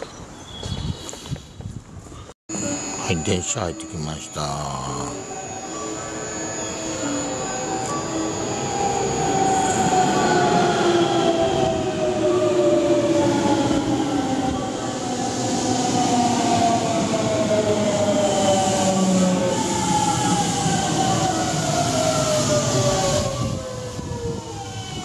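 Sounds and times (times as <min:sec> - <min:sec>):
electric train braking with whine: 0:02.5 - 0:25.0.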